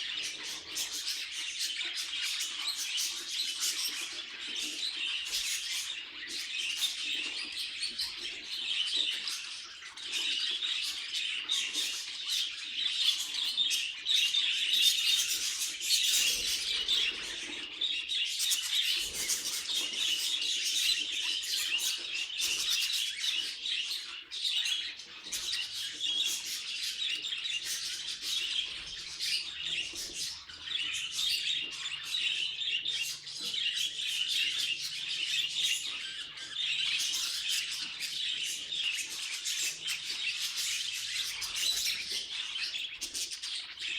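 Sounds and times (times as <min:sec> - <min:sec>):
budgerigars chattering and chirping: 0:00.0 - 0:43.9.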